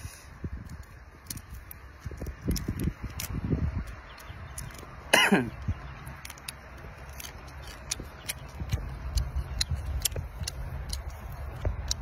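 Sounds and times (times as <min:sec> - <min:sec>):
shrimp shell cracking: 0:00.7 - 0:05.0, 0:06.1 - 0:12.0.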